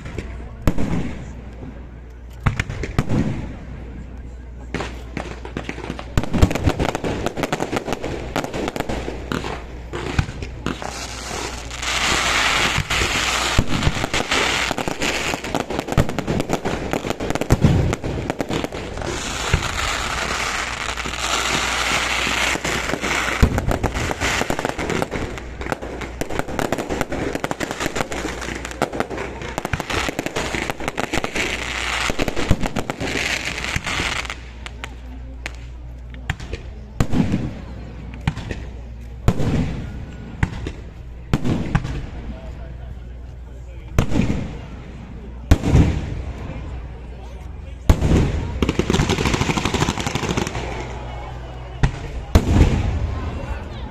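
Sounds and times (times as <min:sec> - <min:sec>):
fireworks bangs and pops: 0:00.0 - 0:04.0, 0:04.6 - 0:42.4, 0:43.9 - 0:46.6, 0:47.8 - 0:51.2, 0:51.8 - 0:53.5
fireworks crackling: 0:00.0 - 0:53.9.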